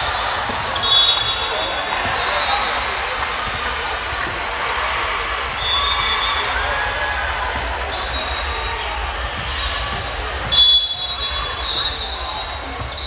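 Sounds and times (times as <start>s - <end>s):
spectators chattering: 0.0s - 13.0s.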